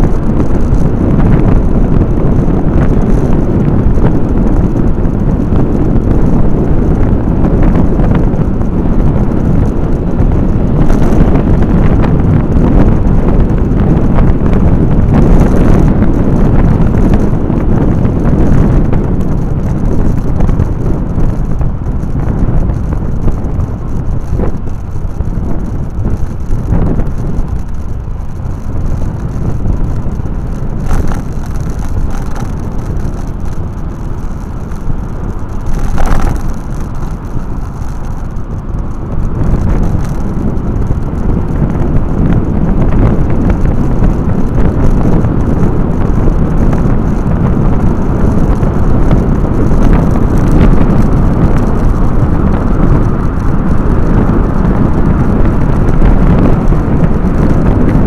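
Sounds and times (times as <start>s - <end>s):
motorcycle and road rumble: 0.0s - 58.0s
wind buffeting microphone: 0.0s - 58.0s.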